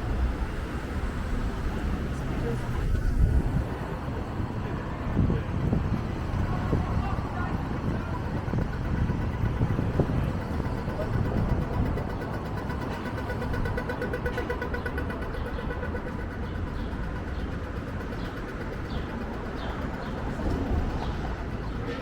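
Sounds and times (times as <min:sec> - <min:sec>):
wind rumble on microphone: 0:00.0 - 0:21.8
city street traffic: 0:00.0 - 0:22.0
vehicle engine pulsing hum: 0:00.0 - 0:22.0.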